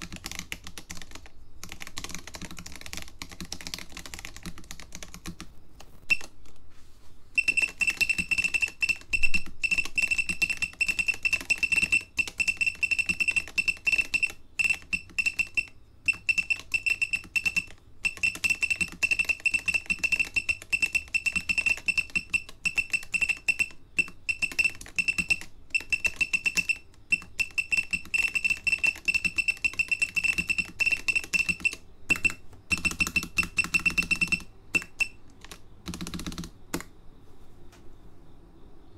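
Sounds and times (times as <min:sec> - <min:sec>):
fast typing on mechanical keyboard: 0:00.0 - 0:06.6, 0:07.4 - 0:36.9.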